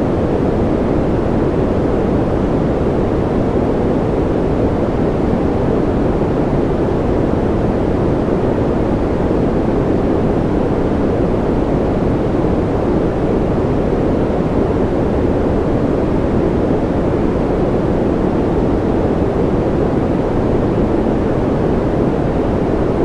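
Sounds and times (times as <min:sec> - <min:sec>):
deep white noise rush: 0:00.0 - 0:23.0.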